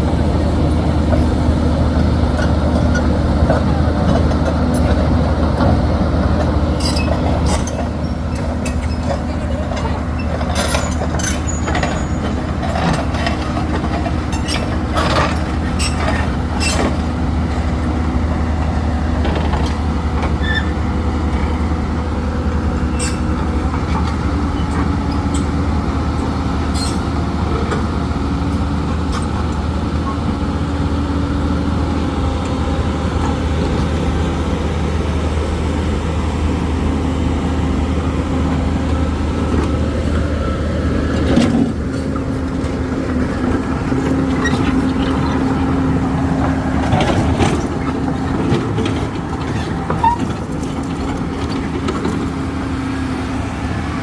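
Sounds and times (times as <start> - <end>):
diesel engines humming: 0.0 - 54.0.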